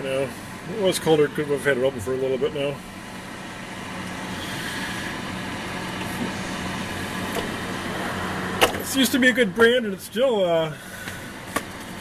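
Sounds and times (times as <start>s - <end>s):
refrigerator whirring: 0.0s - 12.0s.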